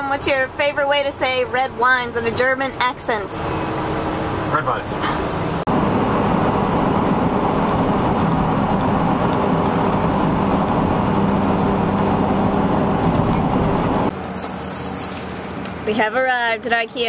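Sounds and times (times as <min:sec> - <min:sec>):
truck road and engine rumble: 0:00.0 - 0:17.0.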